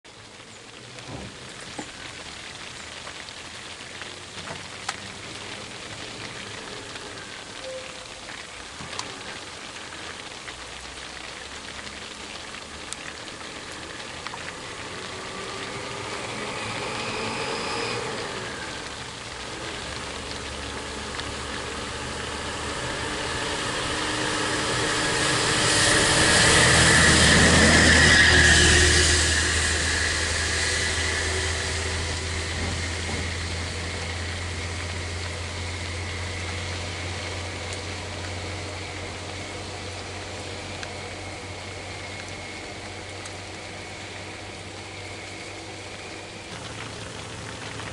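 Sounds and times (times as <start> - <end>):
constant hiss: 0.1 - 47.9
vehicle engine and road noise: 8.5 - 47.9.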